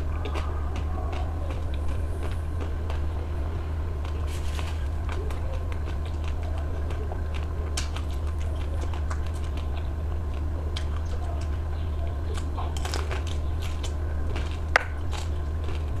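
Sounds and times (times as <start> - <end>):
biting and chewing ice cream: 0.0 - 16.0
steady low hum: 0.0 - 16.0.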